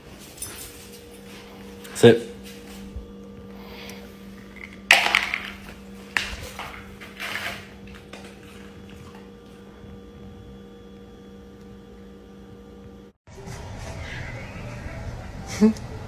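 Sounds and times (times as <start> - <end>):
faint steady hum: 0.0 - 13.2.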